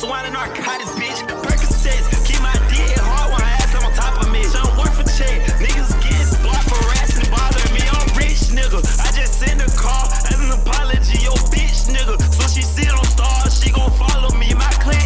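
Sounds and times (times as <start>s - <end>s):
rapping over a beat: 0.0s - 15.0s
deep bass notes: 1.5s - 15.0s
ticking hi-hats: 1.5s - 15.0s.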